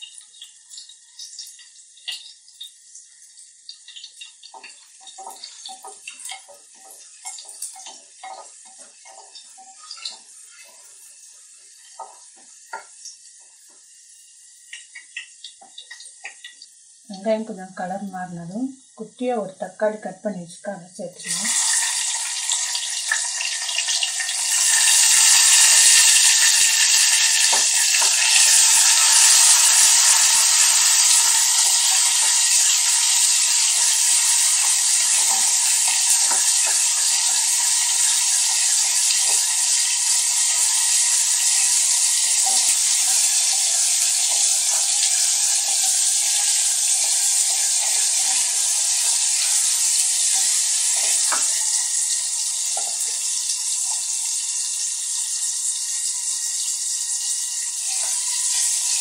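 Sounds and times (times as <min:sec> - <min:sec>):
vegetables sizzling in hot oil: 0:00.0 - 0:59.0.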